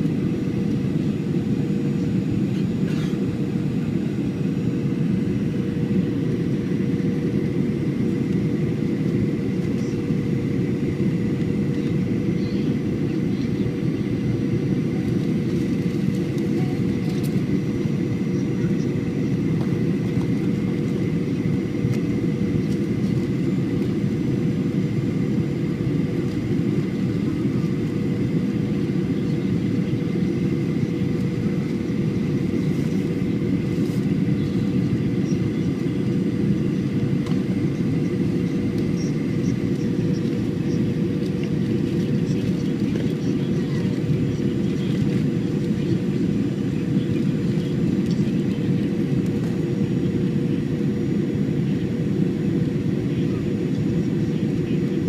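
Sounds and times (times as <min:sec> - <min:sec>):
engine and airflow rumble: 0:00.0 - 0:55.0.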